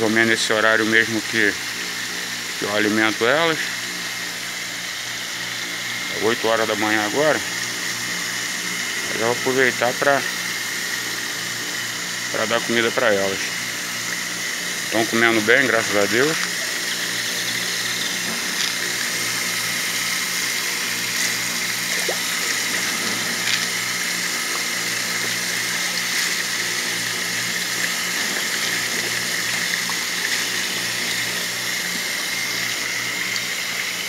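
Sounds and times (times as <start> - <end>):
low pump hum: 0.0 - 34.0
water pouring into a tank: 0.0 - 34.0.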